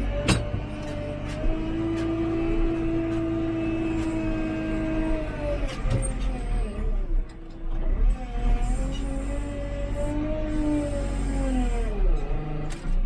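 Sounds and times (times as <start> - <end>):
diesel engine low rumble: 0.0 - 13.0.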